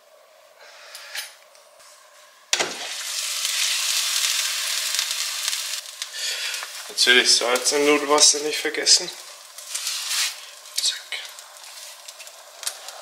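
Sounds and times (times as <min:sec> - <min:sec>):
fish frying in oil: 0:02.6 - 0:13.0.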